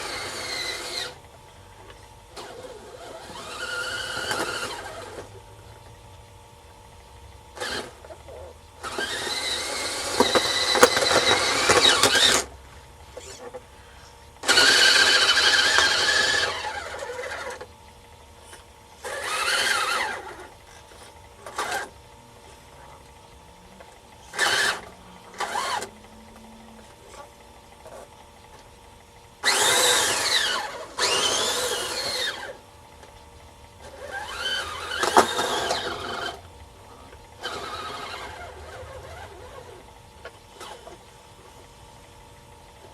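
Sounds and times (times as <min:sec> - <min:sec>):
rc model drive whining: 0:00.0 - 0:42.9.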